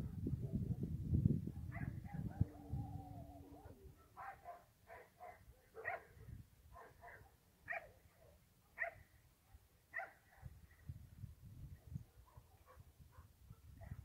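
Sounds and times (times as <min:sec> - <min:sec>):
faint dog barks: 0:00.0 - 0:10.9, 0:11.8 - 0:14.0.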